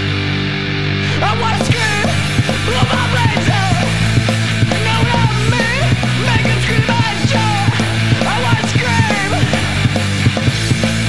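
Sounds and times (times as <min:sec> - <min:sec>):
punk rock band playing: 0:00.0 - 0:11.0.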